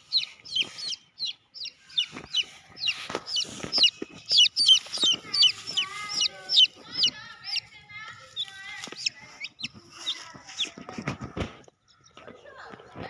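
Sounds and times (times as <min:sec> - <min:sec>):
bird chirping: 0:00.0 - 0:10.9, 0:11.5 - 0:12.4.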